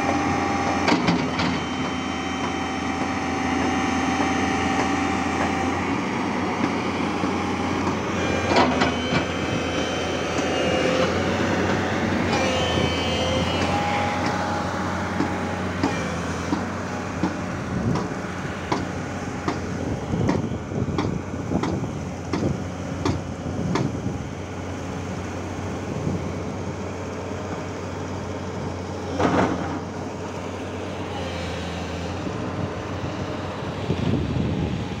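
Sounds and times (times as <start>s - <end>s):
engine humming: 0.0s - 35.0s.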